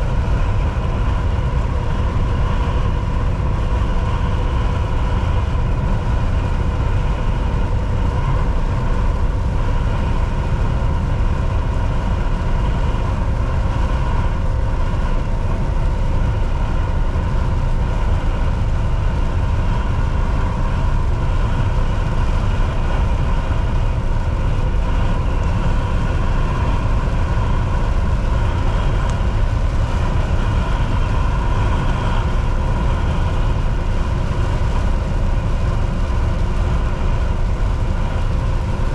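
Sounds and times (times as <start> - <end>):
road noise: 0.0 - 38.9
thin steady whine: 0.0 - 38.9
truck engine drone: 0.0 - 38.9.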